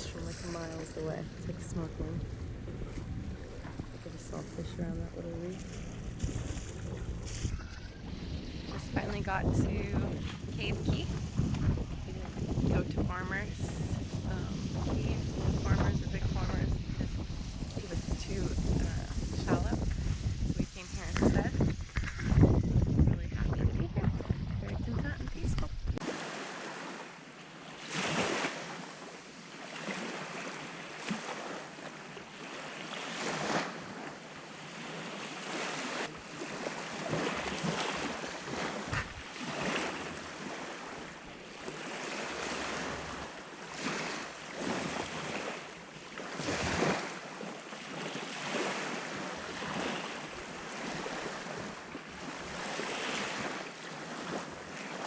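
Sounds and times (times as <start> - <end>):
sea waves washing: 0.0 - 22.4, 23.1 - 55.0
wind buffeting microphone: 0.0 - 26.0, 35.4 - 54.8.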